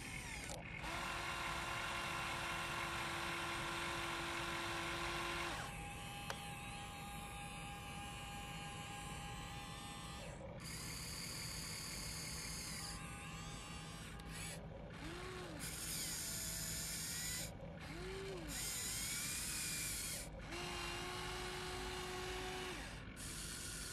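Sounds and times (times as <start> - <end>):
electric motors whining: 0.0 - 23.9.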